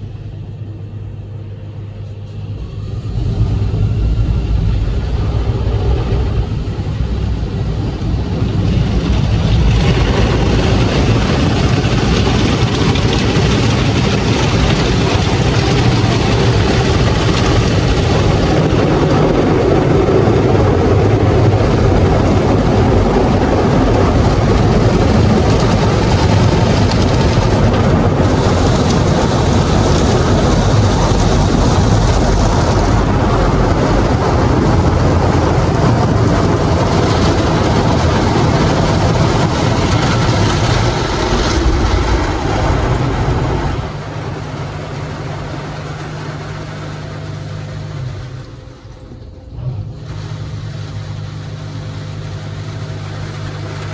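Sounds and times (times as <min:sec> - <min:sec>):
car wash equipment rushing: 0:00.0 - 0:53.9
loud mechanical rumble: 0:00.0 - 0:53.9
quieter steady hum: 0:00.0 - 0:53.9.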